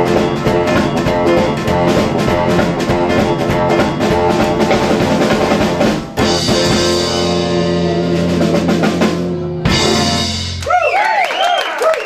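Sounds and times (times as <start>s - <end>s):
live swing band playing: 0.0s - 11.0s
drums: 0.0s - 12.0s.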